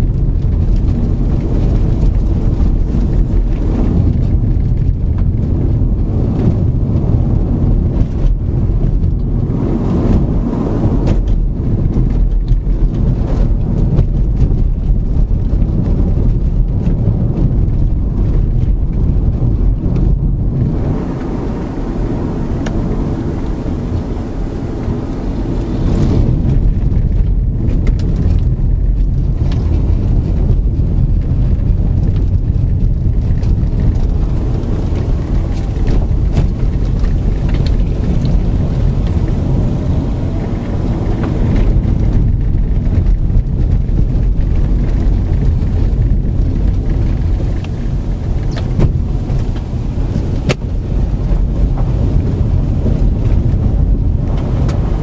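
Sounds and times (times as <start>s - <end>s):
car engine hum: 0.0s - 55.0s
tyre and road noise: 0.0s - 55.0s
wind noise: 0.0s - 55.0s.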